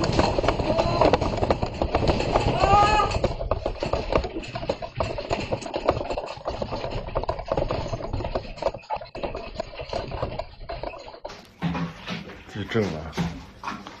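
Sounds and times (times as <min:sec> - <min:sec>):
earthquake rumble: 0:00.0 - 0:12.6
quick knocks and rattles: 0:00.0 - 0:14.0.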